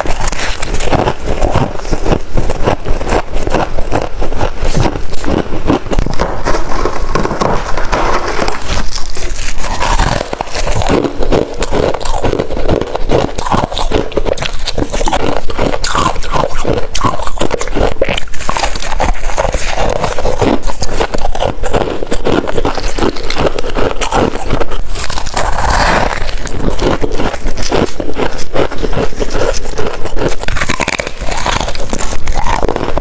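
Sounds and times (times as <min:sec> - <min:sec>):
chewing crunchy frost: 0:00.0 - 0:33.0.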